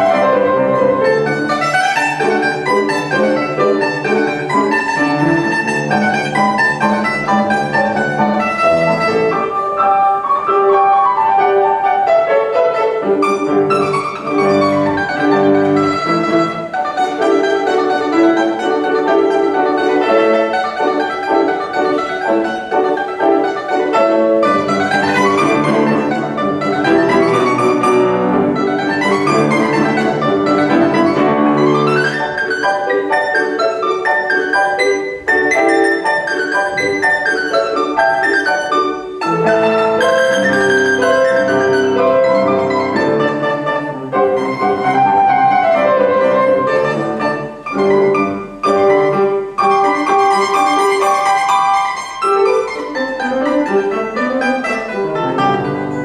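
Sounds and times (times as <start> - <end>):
mandolin playing: 0.0 - 56.0
piano: 0.0 - 56.0.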